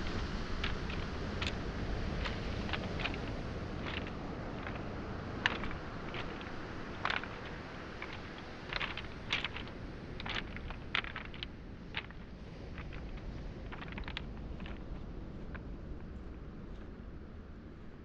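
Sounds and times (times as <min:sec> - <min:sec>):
footsteps on pebbles: 0:00.0 - 0:17.2
waves washing on shore: 0:00.0 - 0:17.7.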